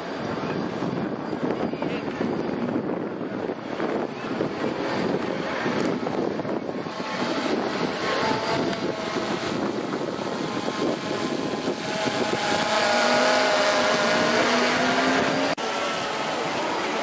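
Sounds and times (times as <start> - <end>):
distant engine drone: 2.0 - 17.0
wind rushing: 2.2 - 16.2.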